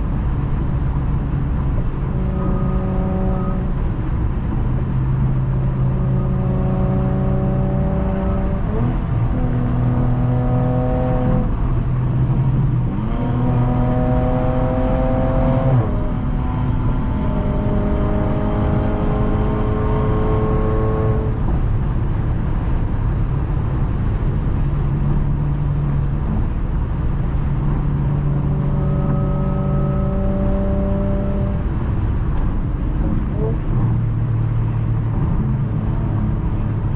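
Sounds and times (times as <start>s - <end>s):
car engine and exhaust accelerating: 0.0s - 36.9s
road rumble: 0.0s - 36.9s.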